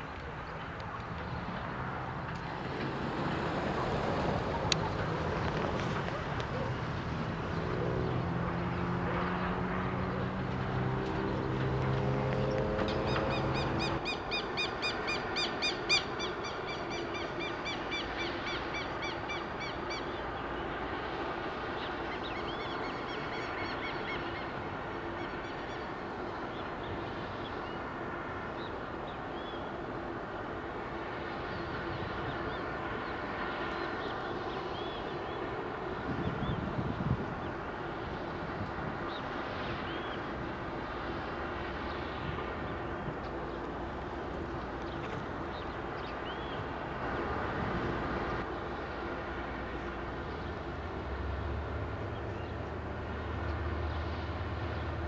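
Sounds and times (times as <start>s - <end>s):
distant diesel locomotive engine: 0.0s - 55.0s.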